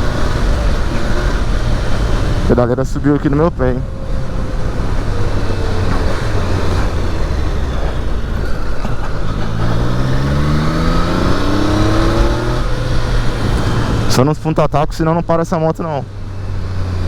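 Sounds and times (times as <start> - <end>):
wind rush: 0.0 - 14.2
motorcycle engine accelerating: 0.0 - 14.3, 16.0 - 17.0
road noise: 0.0 - 17.0.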